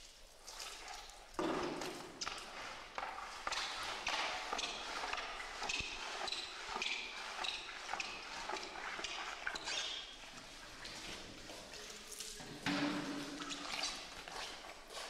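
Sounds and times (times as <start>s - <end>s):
swim fin footsteps slapping floor: 0.0s - 15.0s.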